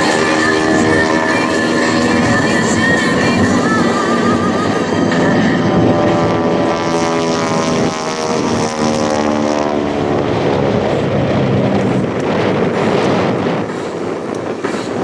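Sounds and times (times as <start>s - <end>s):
propeller plane engine: 0.0s - 15.0s.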